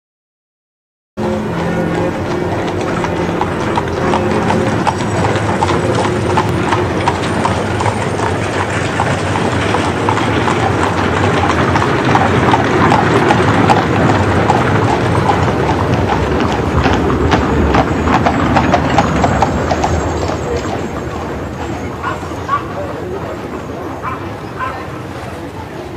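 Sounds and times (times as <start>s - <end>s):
street noise: 1.2s - 25.9s
horse hooves clip-clopping: 1.3s - 25.9s.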